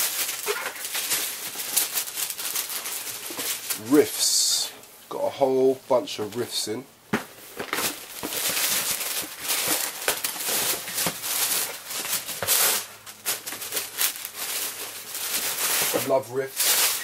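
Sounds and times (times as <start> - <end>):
tissue paper rustling: 0.0 - 4.6, 7.4 - 17.0.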